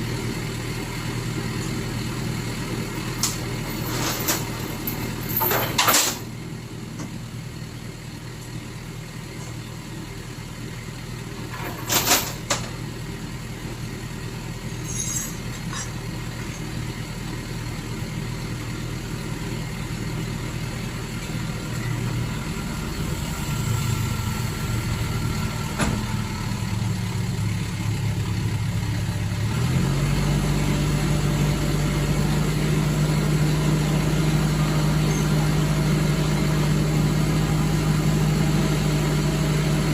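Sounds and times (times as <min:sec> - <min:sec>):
lorry engine idling: 0:06.2 - 0:39.9.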